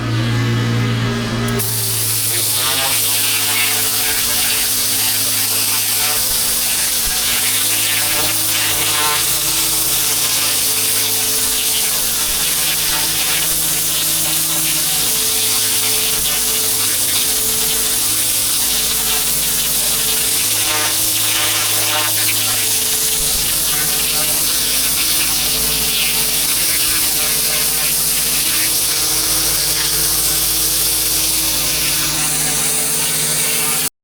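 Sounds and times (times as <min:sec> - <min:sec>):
pressure washer engine hum: 0:00.0 - 0:34.0
hiss of water spray: 0:01.6 - 0:33.9.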